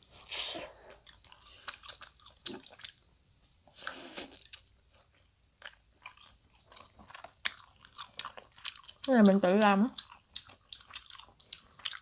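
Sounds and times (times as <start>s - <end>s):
chewing and biting: 0.0s - 3.0s, 3.8s - 12.0s.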